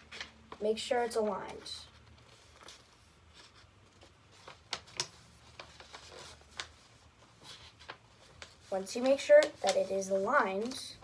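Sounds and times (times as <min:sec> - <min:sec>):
paper rustling and crackling: 0:00.0 - 0:11.0.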